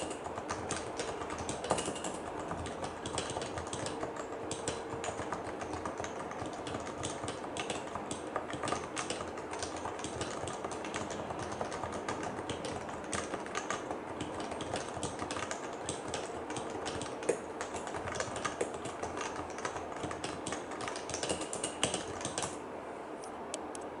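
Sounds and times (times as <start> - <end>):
fast keyboard typing: 0.0 - 22.6.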